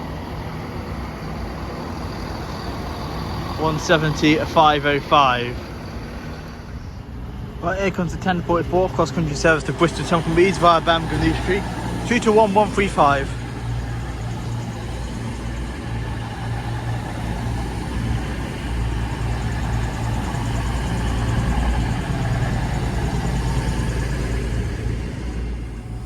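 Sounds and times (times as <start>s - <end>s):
train engines humming: 0.0s - 26.0s.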